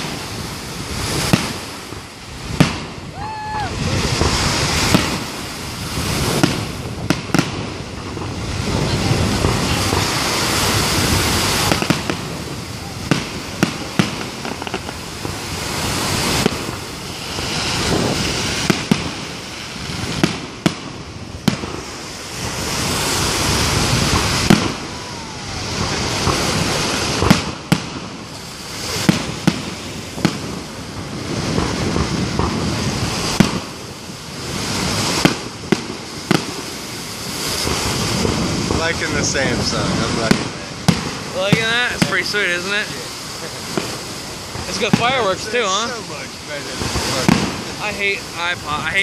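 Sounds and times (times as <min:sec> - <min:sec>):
firework shells bursting: 0:00.0 - 0:49.0
rushing hissing noise: 0:00.0 - 0:49.0.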